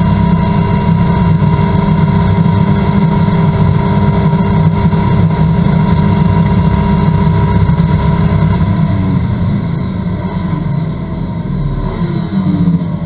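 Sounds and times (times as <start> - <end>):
race car engine at high revs: 0.0 - 13.0
wind and road noise: 0.0 - 13.0.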